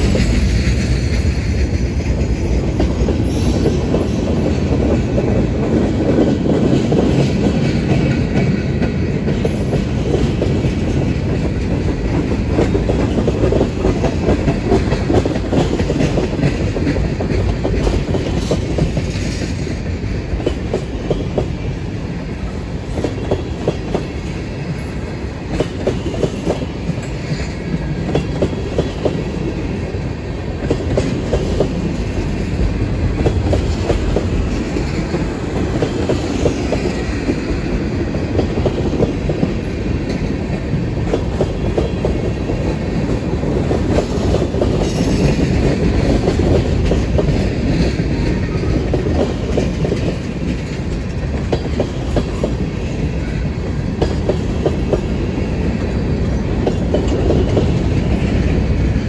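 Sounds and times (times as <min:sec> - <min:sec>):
train wheels rumbling on rail: 0:00.0 - 0:59.0
wheels clicking over rail joints: 0:00.0 - 0:59.0.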